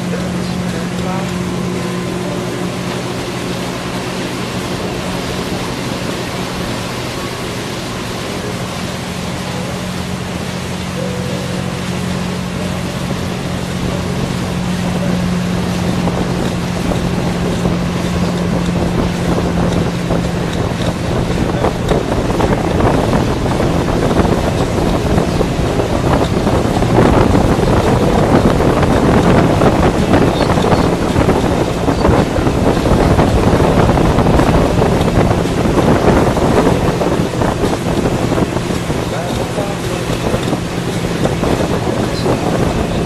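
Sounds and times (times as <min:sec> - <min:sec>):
churning wake water: 0:00.0 - 0:43.0
motorboat engine running: 0:00.0 - 0:43.0
wind on microphone: 0:00.0 - 0:43.0.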